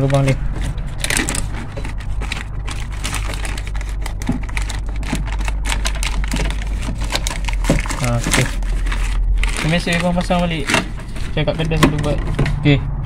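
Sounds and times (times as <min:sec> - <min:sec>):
plastic sheet crinkling: 0:00.0 - 0:12.5.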